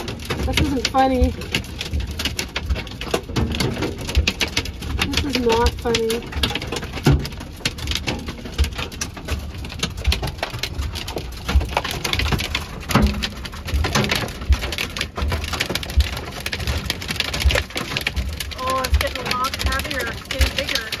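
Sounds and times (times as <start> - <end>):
hail and rain on metal roof: 0.0 - 21.0.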